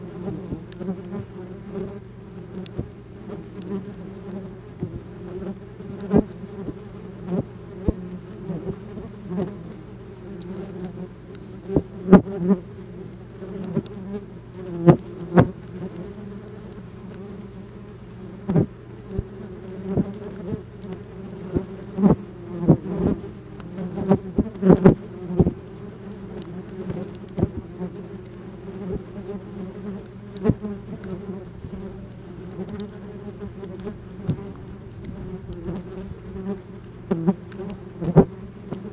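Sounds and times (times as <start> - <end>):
wasps buzzing: 0.0 - 38.9.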